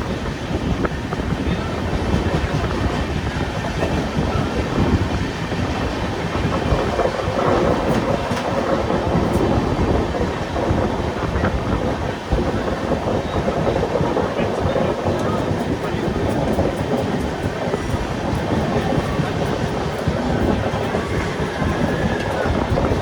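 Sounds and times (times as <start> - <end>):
train coaches rumbling on track: 0.0 - 23.0.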